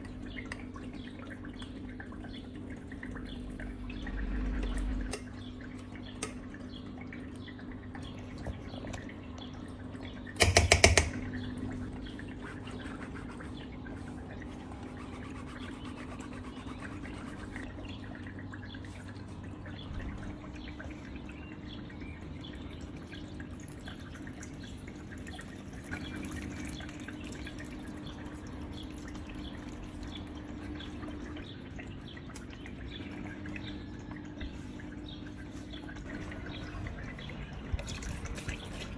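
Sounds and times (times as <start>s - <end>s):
pump humming: 0.0s - 38.9s
water fountain trickling: 0.0s - 38.9s.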